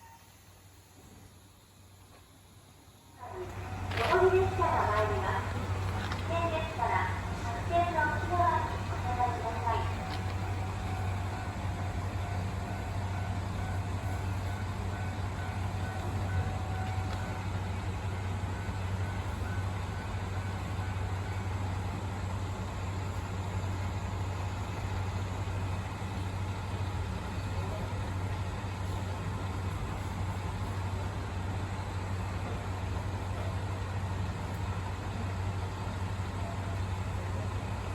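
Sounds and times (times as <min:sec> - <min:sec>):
train running low rumble: 0:00.0 - 0:37.9.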